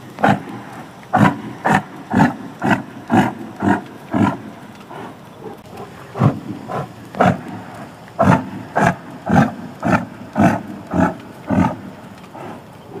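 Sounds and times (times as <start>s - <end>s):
yak grunting: 0.0s - 13.0s.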